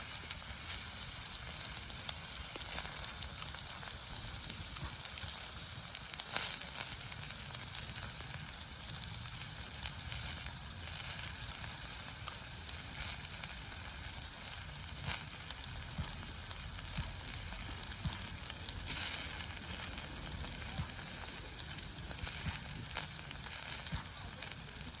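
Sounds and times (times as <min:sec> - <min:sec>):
steak sizzling on iron plate: 0:00.0 - 0:25.0.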